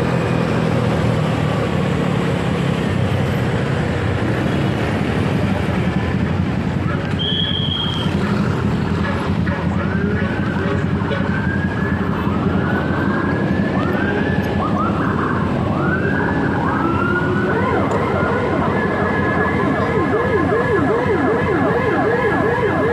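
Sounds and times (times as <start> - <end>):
emergency siren wailing: 0.0 - 22.9.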